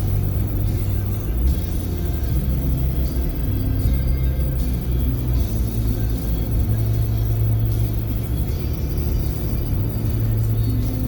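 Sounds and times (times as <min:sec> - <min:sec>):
music on car radio: 0:00.0 - 0:11.0.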